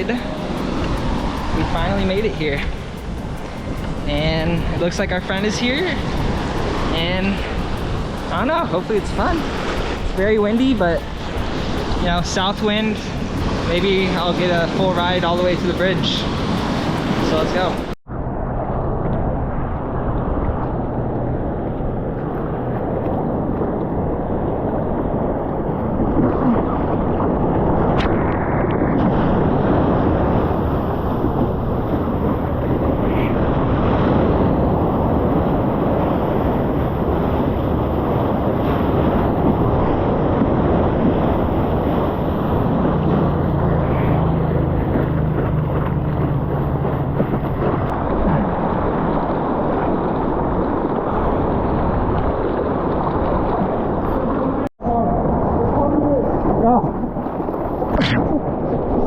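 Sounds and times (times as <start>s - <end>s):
ocean surf: 0.0s - 59.0s
wind buffeting microphone: 0.0s - 59.0s.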